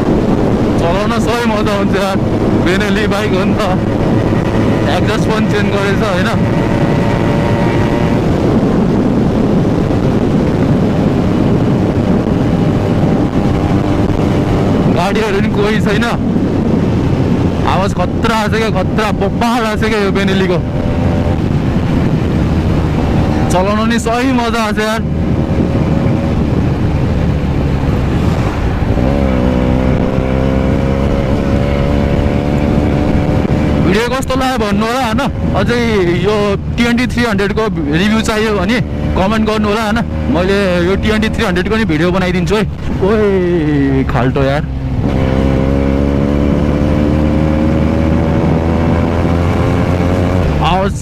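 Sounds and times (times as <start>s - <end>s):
motorcycle engine running: 0.0s - 51.0s
wind rush on microphone: 0.0s - 51.0s.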